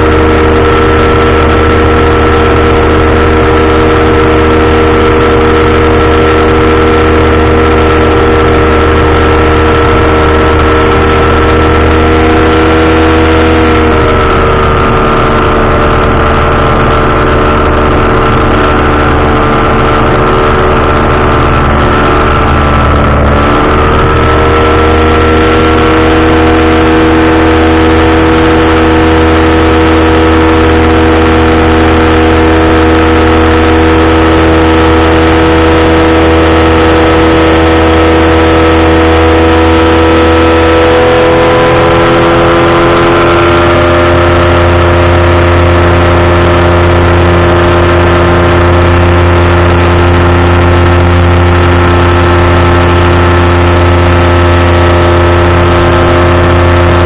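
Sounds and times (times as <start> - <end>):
engine and propeller running: 0.0 - 57.0.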